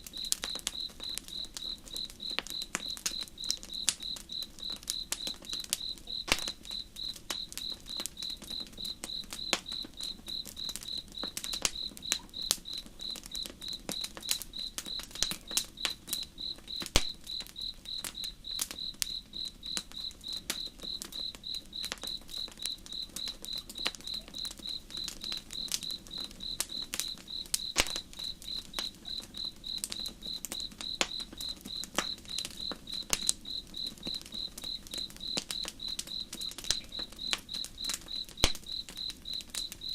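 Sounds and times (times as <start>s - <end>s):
campfire crackles and pops: 0.0s - 39.9s
cricket chirping: 0.0s - 39.9s.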